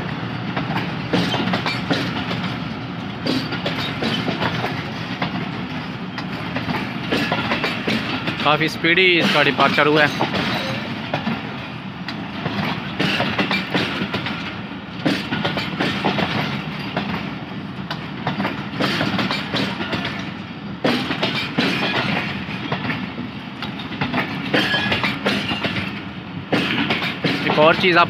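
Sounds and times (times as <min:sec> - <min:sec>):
train wheels clattering over rail joints: 0:00.0 - 0:28.0.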